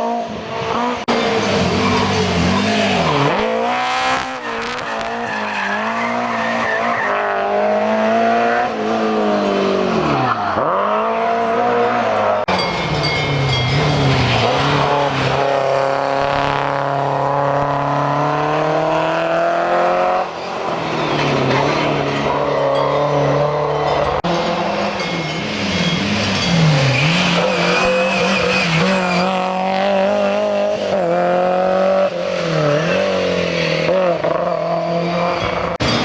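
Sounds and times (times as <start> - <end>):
rally car engine at high revs: 0.0 - 36.0.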